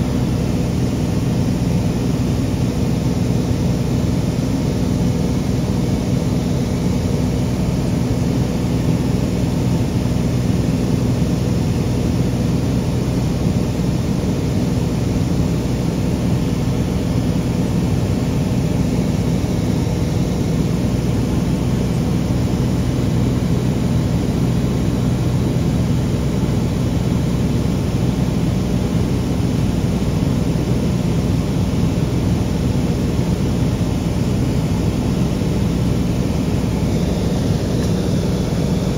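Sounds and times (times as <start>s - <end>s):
small aircraft engine hum: 0.0s - 38.9s.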